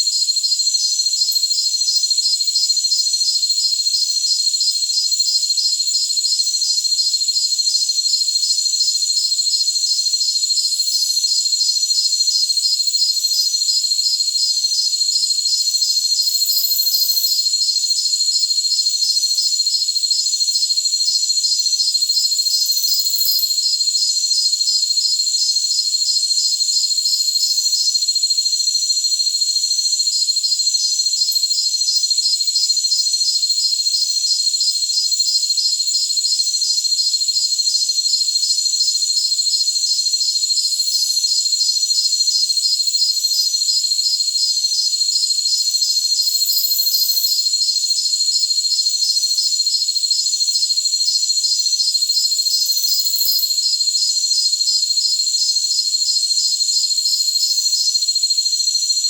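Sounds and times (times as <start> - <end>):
crickets trilling: 0.0 - 58.6
crickets chirping in pulses: 0.1 - 59.0.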